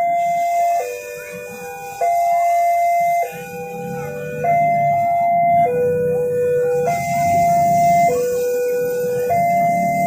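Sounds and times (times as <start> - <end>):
two-tone siren-like signal: 0.0 - 10.0.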